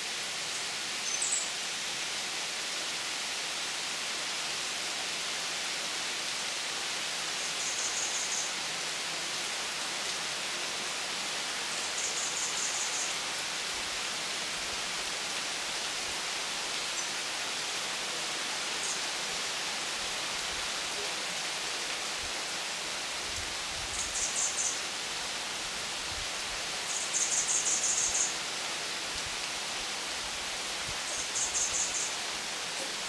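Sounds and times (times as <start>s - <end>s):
rain falling: 0.1s - 33.0s.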